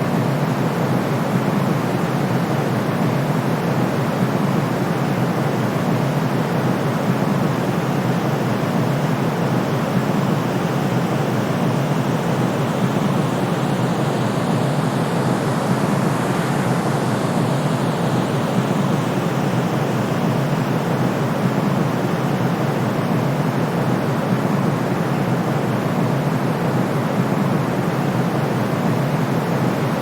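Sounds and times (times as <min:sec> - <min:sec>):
steady white noise hiss: 0:00.0 - 0:30.0.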